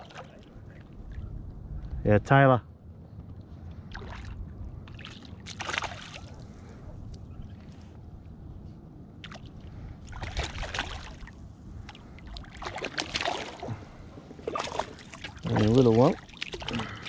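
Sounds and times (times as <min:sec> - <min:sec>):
water splashing and sloshing: 0:00.0 - 0:01.9, 0:03.3 - 0:08.1, 0:09.1 - 0:17.0
steady low rumble: 0:00.0 - 0:17.0.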